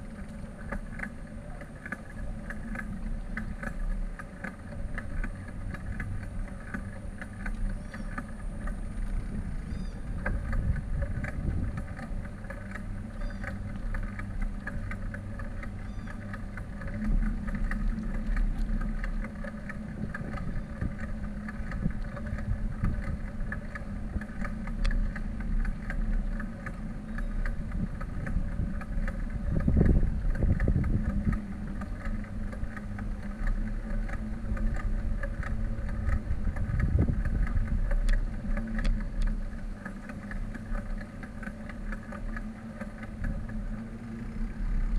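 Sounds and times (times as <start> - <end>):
bicycle riding on paving: 0.0 - 44.9.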